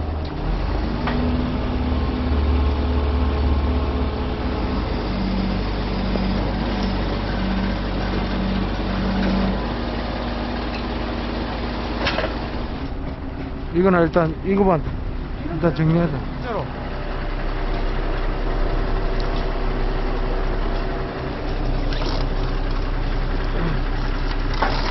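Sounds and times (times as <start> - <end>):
heavy vehicle engine rumbling: 0.0 - 24.9
pulsing low hum: 1.4 - 24.9.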